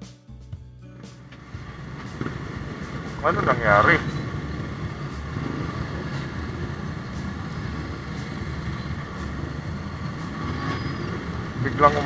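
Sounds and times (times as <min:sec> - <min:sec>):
road noise: 0:01.0 - 0:12.0
vehicle engines rumbling: 0:01.1 - 0:12.0.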